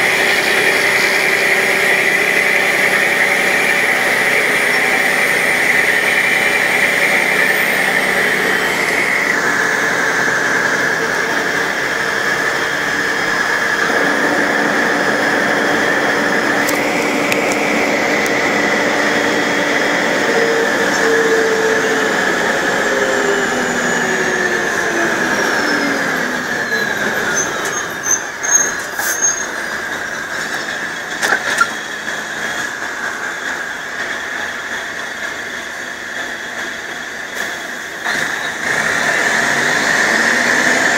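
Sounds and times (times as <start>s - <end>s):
bus engine running: 0.0s - 40.9s
gearbox whine: 0.0s - 40.9s.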